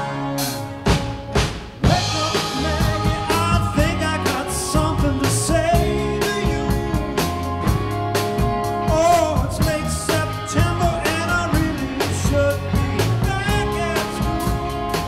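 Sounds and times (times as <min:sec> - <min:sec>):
rock band playing: 0:00.0 - 0:15.0
man singing: 0:01.8 - 0:07.8, 0:08.8 - 0:15.0.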